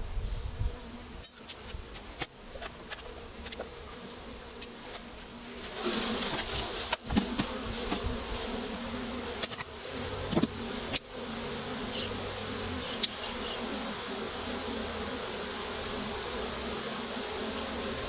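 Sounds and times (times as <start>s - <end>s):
honeybees buzzing: 0.2s - 18.0s.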